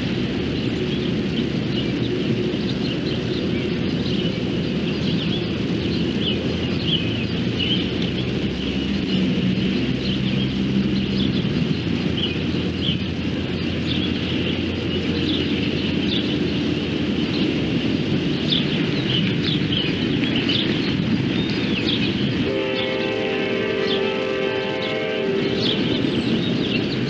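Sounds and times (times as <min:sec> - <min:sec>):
birds chirping: 0:00.0 - 0:27.0
engine hum: 0:00.0 - 0:27.0
train rumbling past: 0:00.0 - 0:27.0.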